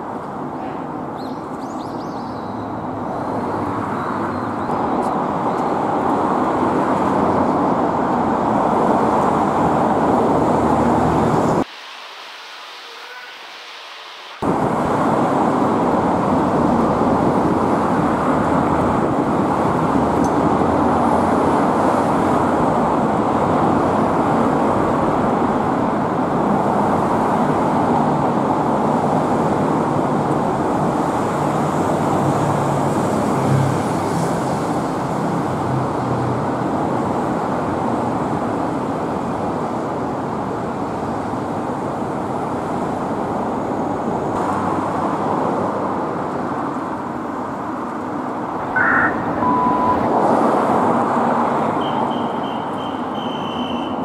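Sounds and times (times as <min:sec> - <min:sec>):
city road traffic: 0:00.0 - 0:54.0.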